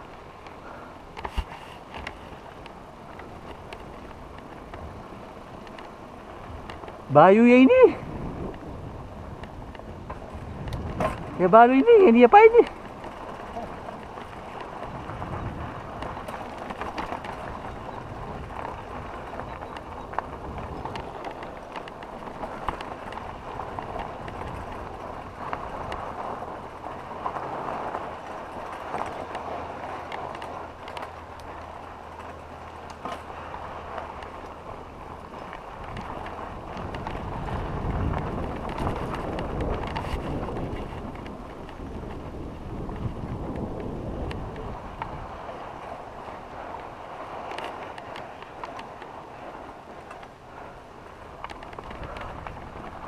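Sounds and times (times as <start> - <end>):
bike rattling and clicking: 0.0 - 53.0
bike tyres crunching on stony trail: 0.0 - 53.0
wind on microphone: 0.0 - 53.0.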